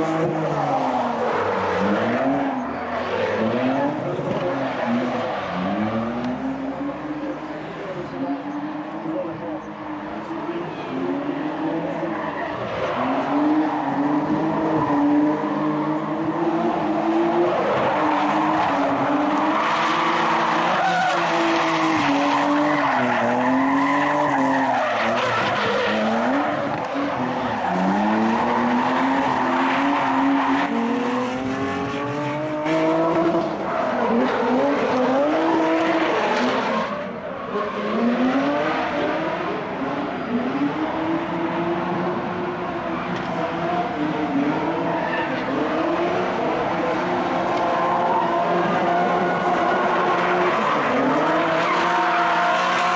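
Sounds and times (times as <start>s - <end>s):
car engine revving hard: 0.0s - 52.9s
tyres squealing and skidding: 0.0s - 52.9s.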